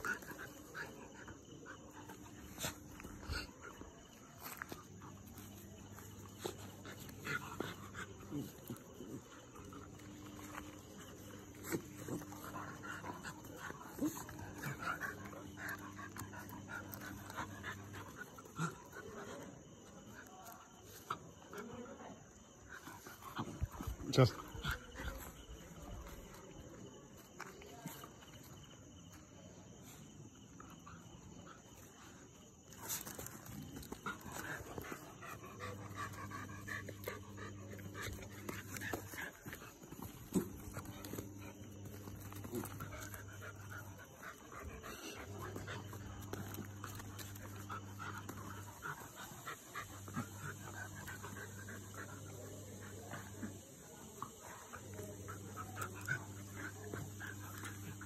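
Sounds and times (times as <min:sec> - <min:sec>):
dogs panting: 0:00.0 - 0:58.0
dogs play-fighting: 0:00.0 - 0:58.0.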